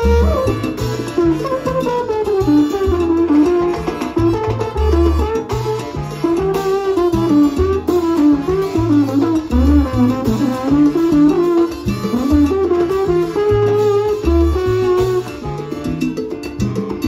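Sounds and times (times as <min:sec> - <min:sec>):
trombone melody: 0:00.0 - 0:16.1
congas: 0:00.0 - 0:17.0
plucked upright bass: 0:00.0 - 0:17.0.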